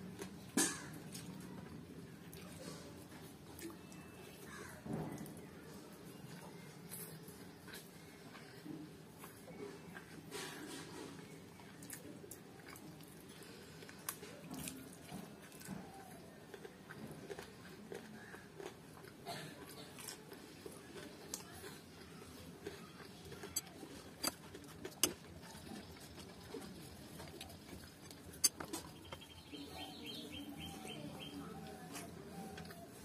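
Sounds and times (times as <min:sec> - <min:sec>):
chewing: 0:00.0 - 0:04.6, 0:06.0 - 0:30.0, 0:31.4 - 0:33.0.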